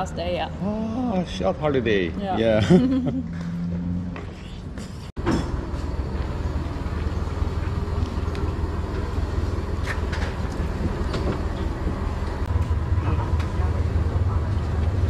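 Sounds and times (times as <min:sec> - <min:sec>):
boat engine running: 0:02.0 - 0:15.0.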